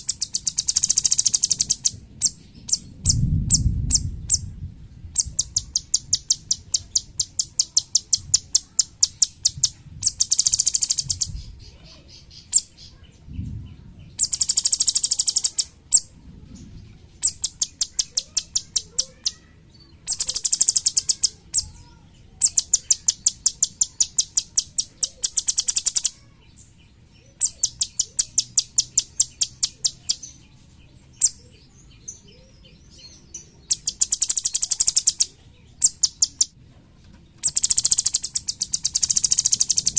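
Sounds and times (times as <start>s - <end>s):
songbird rapid high calls: 0.0s - 4.5s, 5.2s - 13.0s, 14.2s - 16.1s, 17.2s - 19.4s, 20.0s - 26.3s, 27.2s - 30.4s, 32.1s - 36.5s, 37.4s - 39.9s.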